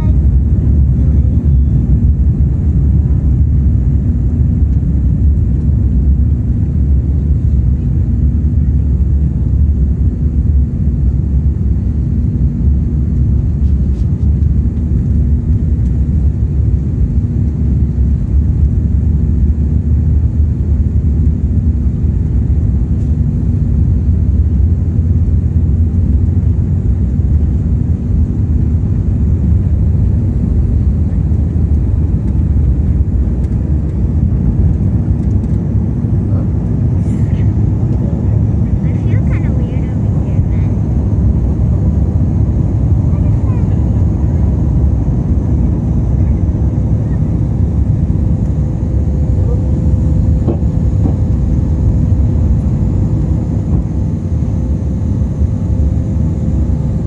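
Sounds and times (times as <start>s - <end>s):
jet airliner cabin rumble: 0.0s - 57.0s.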